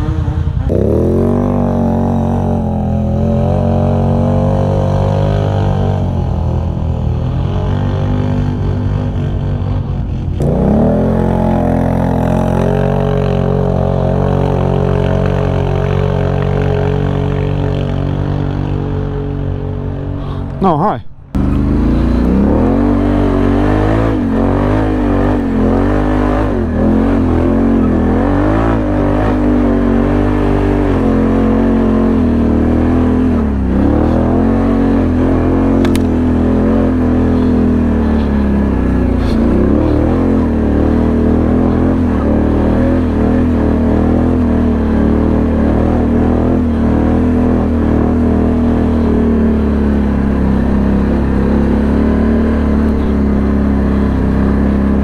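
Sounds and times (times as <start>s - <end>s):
atv engine running under load: 0.0s - 20.5s, 21.4s - 55.0s.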